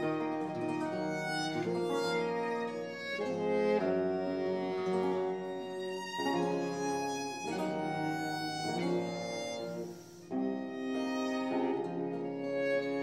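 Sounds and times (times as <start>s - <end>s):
violins playing bowed chords: 0.0s - 13.0s.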